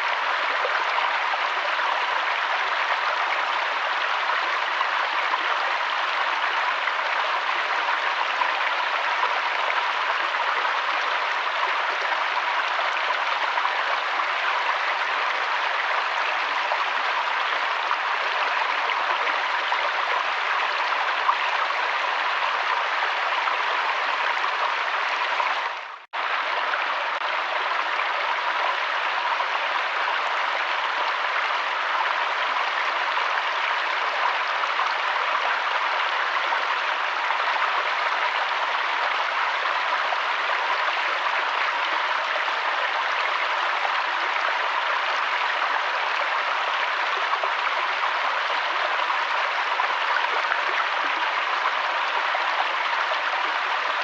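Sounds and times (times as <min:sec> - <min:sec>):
flowing river water: 0:00.0 - 0:54.0.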